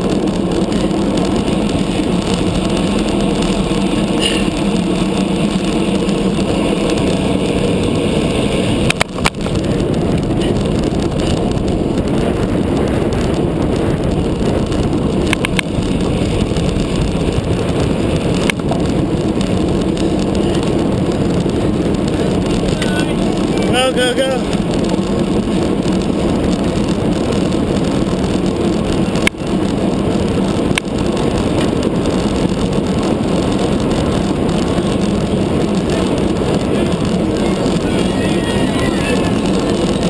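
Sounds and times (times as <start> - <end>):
road and tyre rumble: 0.0 - 40.0
wind rushing over microphone: 0.0 - 40.0.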